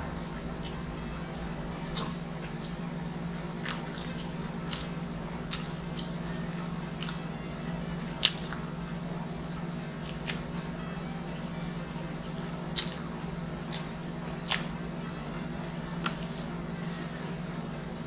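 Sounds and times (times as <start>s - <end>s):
low hum: 0.0s - 18.0s
person chewing and biting: 0.5s - 7.4s, 8.0s - 17.9s.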